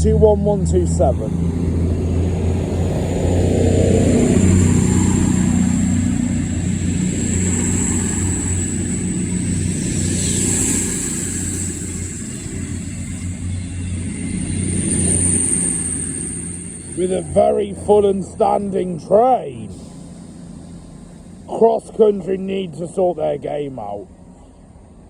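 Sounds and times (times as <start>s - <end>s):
diesel train engines droning: 0.0s - 25.0s.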